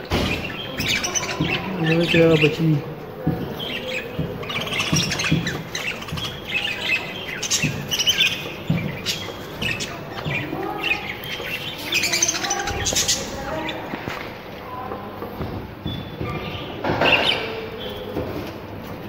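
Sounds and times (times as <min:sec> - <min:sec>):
budgerigars chirping and squawking: 0:00.0 - 0:14.2, 0:15.9 - 0:18.5.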